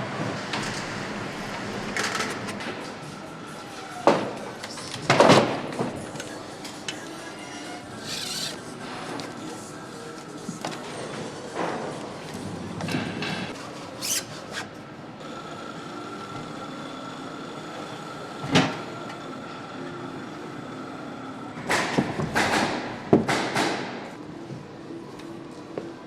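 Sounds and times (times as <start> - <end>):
machinery hum: 0.0 - 14.0, 14.6 - 23.3.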